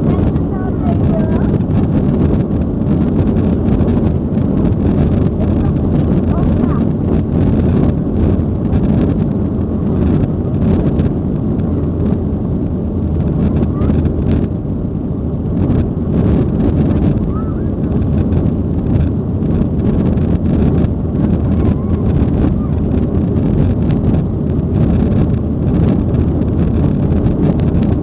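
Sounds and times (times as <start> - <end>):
jet engine roar in cabin: 0.0 - 28.0.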